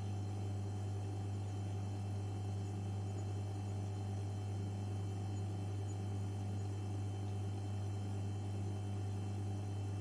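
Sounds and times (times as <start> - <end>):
electrical hum and buzz: 0.0 - 10.0.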